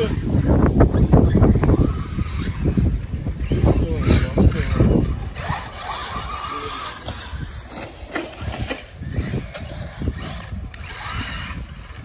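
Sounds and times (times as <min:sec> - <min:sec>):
tyres crackling over dirt: 0:00.0 - 0:12.0.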